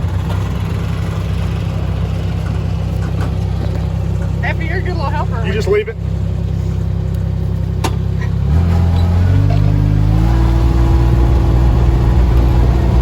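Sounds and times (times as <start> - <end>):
utility vehicle engine revving: 0.0 - 13.0.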